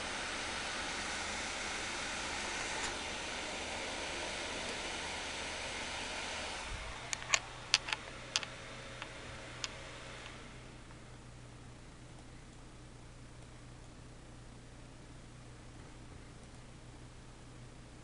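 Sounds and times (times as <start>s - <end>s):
computer fans blowing: 0.0s - 18.0s.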